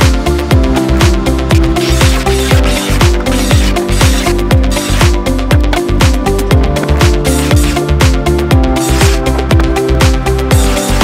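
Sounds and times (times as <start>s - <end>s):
electronic dance music: 1.5s - 11.0s.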